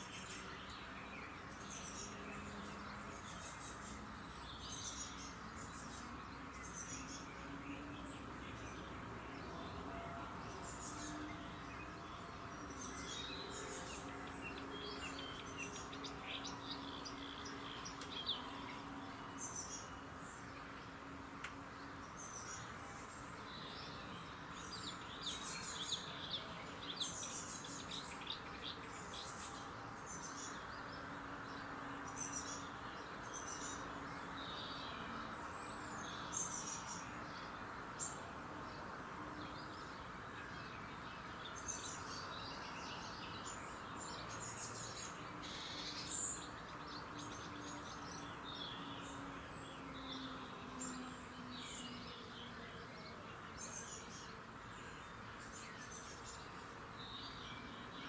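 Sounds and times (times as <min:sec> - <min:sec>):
birds chirping and singing: 0:00.0 - 0:20.9, 0:21.7 - 0:38.8, 0:39.4 - 0:58.0
steady background hiss: 0:00.0 - 0:58.0.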